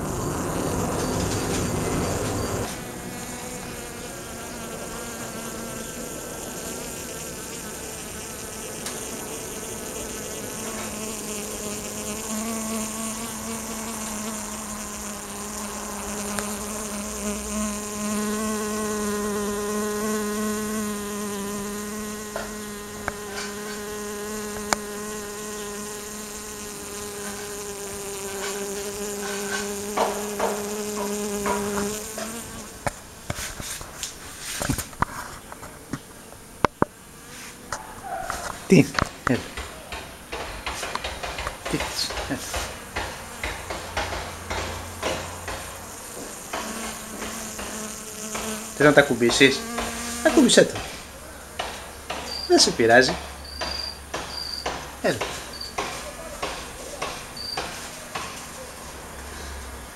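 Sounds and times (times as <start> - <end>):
bee buzzing: 0.0 - 59.9.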